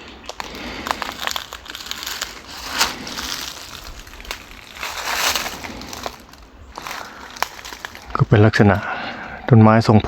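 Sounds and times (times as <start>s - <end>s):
footsteps crunching dry leaves: 0.0s - 8.8s.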